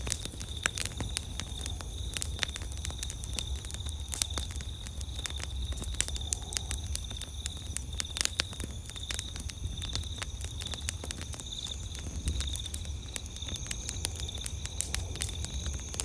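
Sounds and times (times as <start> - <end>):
campfire crackling and popping: 0.0 - 16.0
night insects chirring: 0.0 - 16.0.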